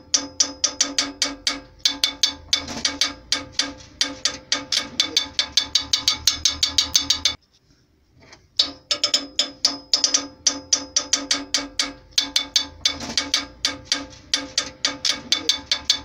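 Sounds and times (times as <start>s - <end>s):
percussive clicking music: 0.1s - 7.4s, 9.0s - 16.0s.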